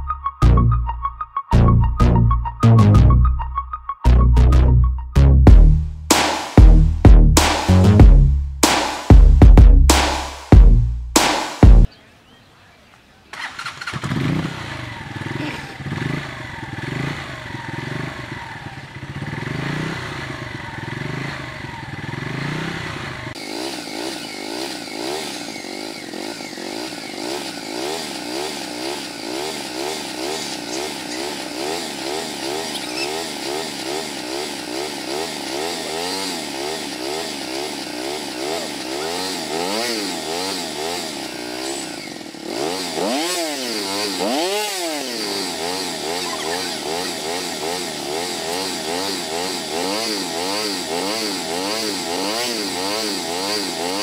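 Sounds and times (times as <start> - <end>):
motorcycle engine revving: 5.4 - 11.9, 13.3 - 54.0.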